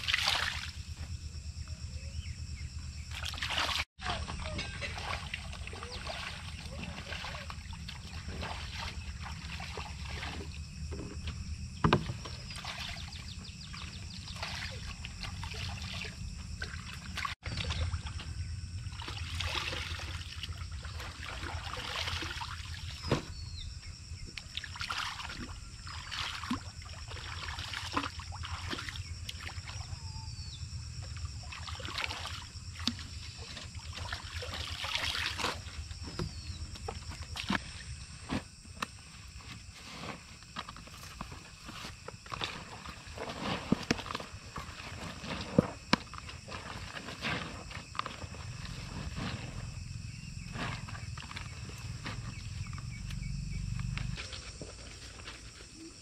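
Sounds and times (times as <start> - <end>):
water sloshing and splashing: 0.0 - 1.0, 3.0 - 56.0.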